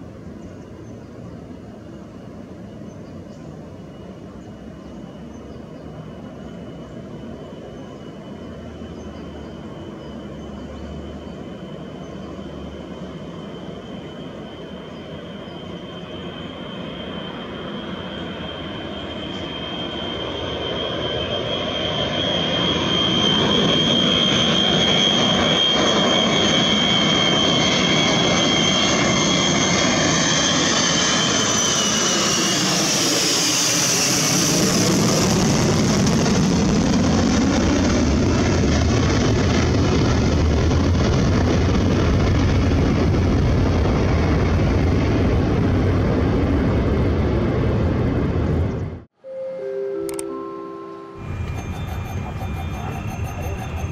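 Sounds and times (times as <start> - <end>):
jet engines roaring overhead: 0.0 - 49.1, 51.2 - 53.9
high engine whine: 0.0 - 53.9.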